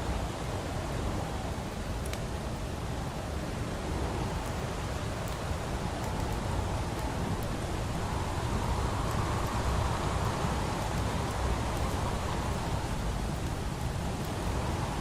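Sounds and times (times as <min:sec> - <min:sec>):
rain hiss: 0:00.0 - 0:15.0
wood fire crackling: 0:01.0 - 0:15.0.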